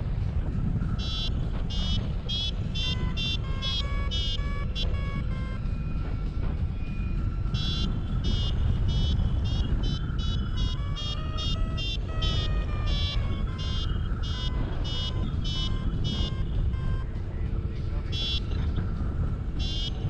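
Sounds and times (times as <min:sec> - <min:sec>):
variometer beeping: 0:00.0 - 0:20.0
wind rushing over microphone: 0:00.0 - 0:20.0.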